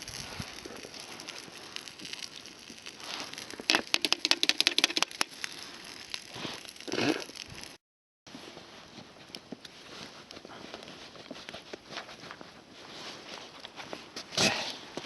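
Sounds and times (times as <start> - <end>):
campfire crackling: 0.0 - 15.0
fire rustling flare: 0.0 - 15.0.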